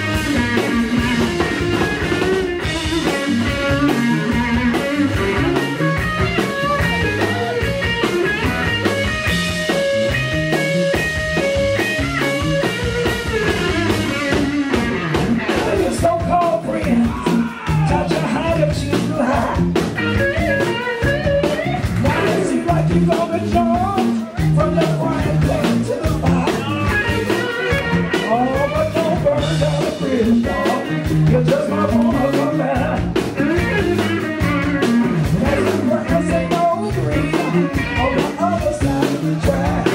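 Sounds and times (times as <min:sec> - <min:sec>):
electric guitar lines: 0:00.0 - 0:39.9
live blues band playing: 0:00.0 - 0:39.9.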